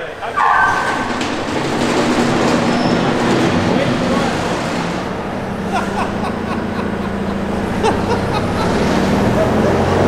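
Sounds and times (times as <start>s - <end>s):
wood chipper engine running: 0.7s - 10.0s.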